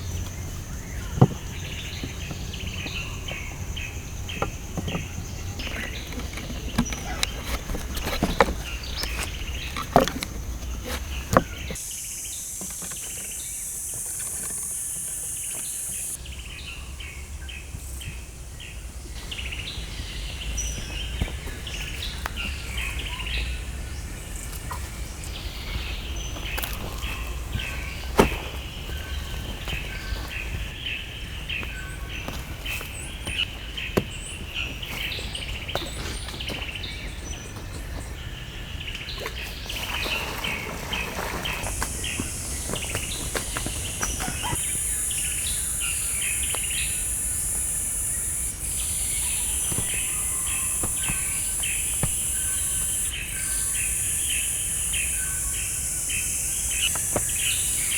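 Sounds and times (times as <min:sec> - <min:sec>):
birds chirping: 0:00.0 - 0:57.9
high insect drone: 0:00.0 - 0:57.9
insects buzzing: 0:00.0 - 0:57.9.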